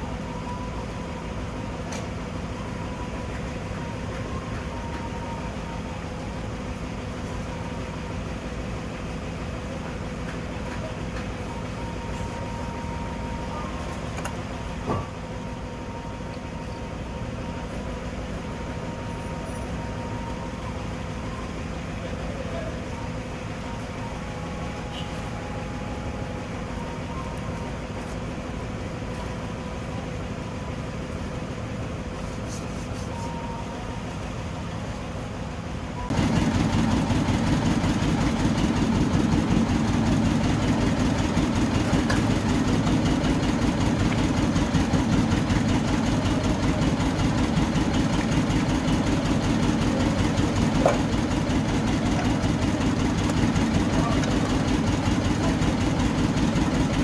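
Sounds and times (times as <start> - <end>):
petrol engine idling: 0.0 - 57.0.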